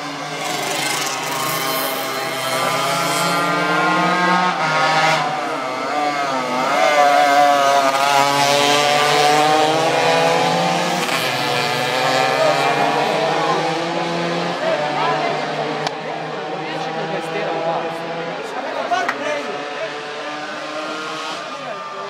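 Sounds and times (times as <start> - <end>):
mopeds revving past: 0.0 - 18.6.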